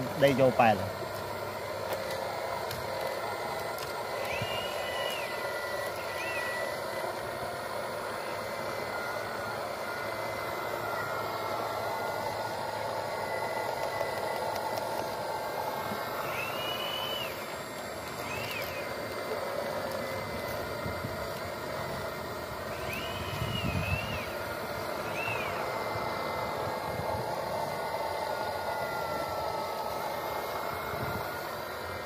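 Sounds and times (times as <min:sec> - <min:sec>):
electric motors whirring: 0:00.0 - 0:32.0
brief high whines: 0:03.4 - 0:32.0.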